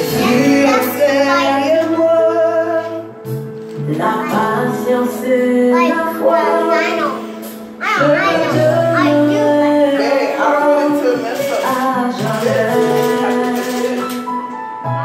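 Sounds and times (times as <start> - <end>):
man and woman singing: 0.0 - 3.2, 3.8 - 15.0
instrumental backing: 0.0 - 15.0.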